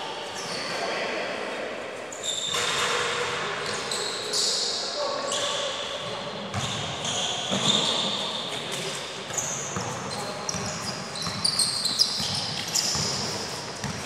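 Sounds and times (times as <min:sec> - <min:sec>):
shoes squeaking on court floor: 0:00.3 - 0:00.8, 0:02.1 - 0:14.0.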